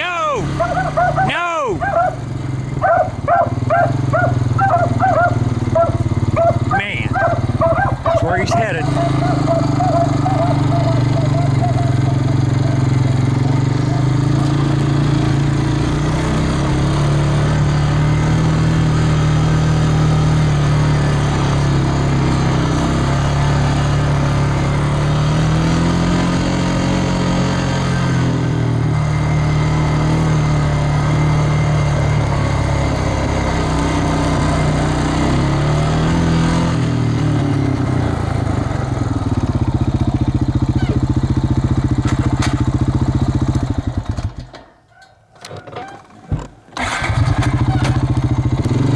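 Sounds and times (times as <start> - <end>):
engine revving up and down: 0.0 - 39.6, 46.8 - 48.9.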